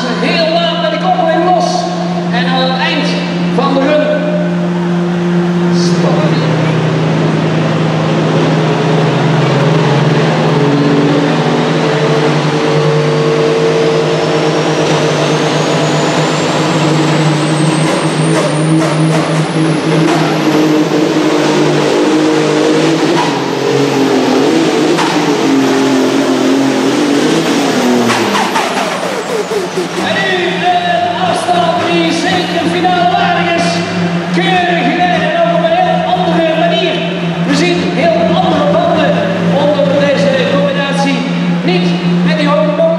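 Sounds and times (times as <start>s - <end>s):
high whine climbing in pitch: 0.0s - 34.9s
tractor engine running flat out: 0.0s - 40.6s.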